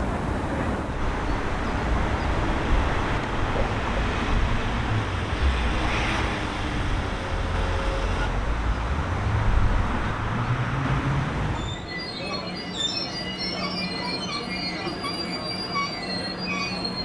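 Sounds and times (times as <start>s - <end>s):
train rumbling at platform: 0.0s - 17.0s.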